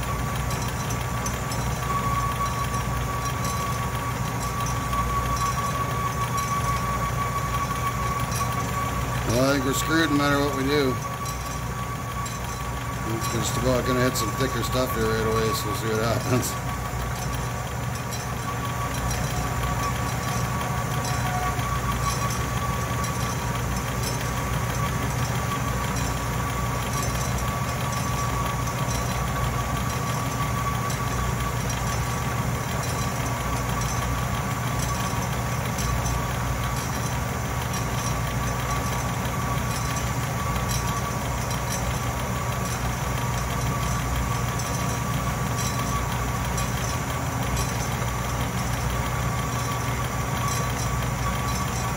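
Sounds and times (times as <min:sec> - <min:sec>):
lathe motor hum: 0:00.0 - 0:51.9
thin high cutting tone: 0:00.0 - 0:51.9.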